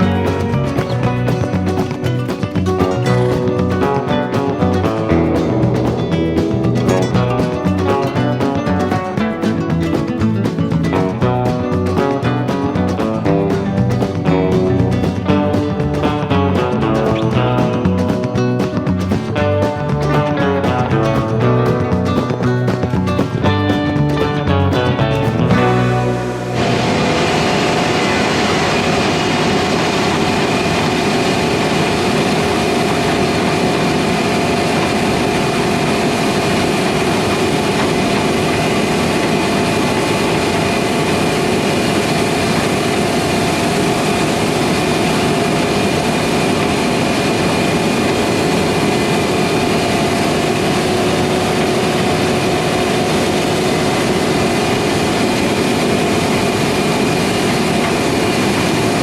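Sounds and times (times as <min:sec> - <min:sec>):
heavy farm machinery droning: 0:00.0 - 0:59.0.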